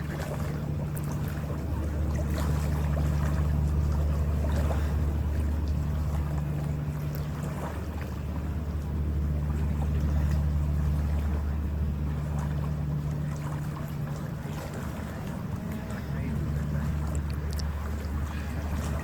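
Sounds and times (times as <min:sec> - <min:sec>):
ferry engines droning: 0:00.0 - 0:19.0
rushing water: 0:00.0 - 0:19.0
wind: 0:00.0 - 0:19.0.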